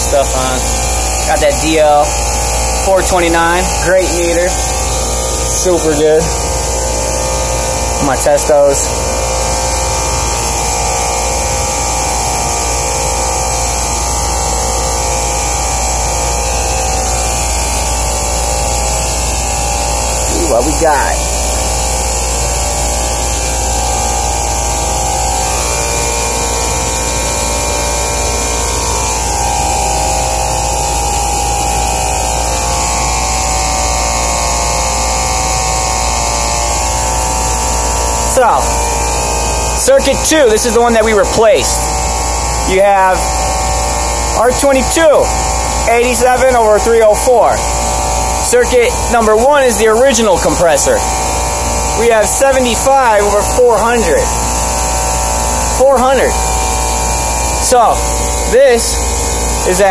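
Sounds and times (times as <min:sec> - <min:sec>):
cooling unit compressor and fan hum: 0:00.0 - 0:59.9
faint steady whine: 0:00.0 - 0:59.9.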